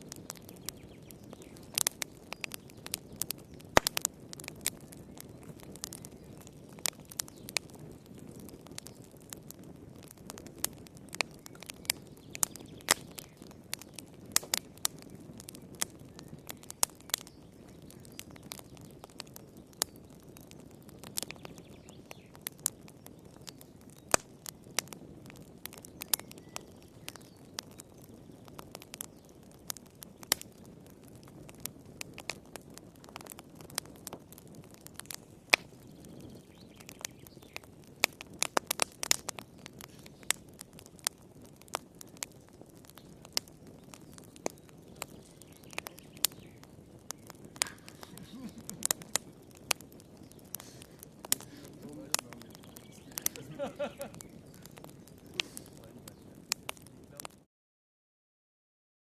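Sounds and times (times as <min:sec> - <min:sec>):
fire popping and snapping: 0:00.0 - 0:57.5
low rumble of flames: 0:00.0 - 0:57.5.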